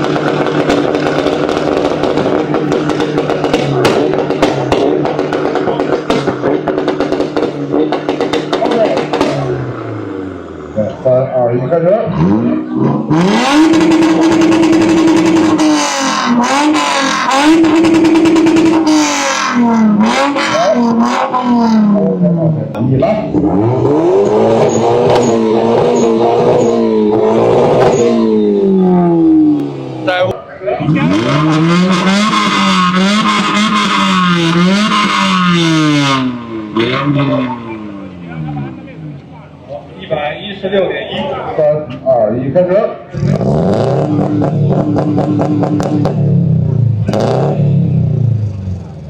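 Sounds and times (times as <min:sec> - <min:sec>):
car engine revving hard: 0:00.0 - 0:11.0, 0:11.7 - 0:39.2, 0:43.1 - 0:49.0.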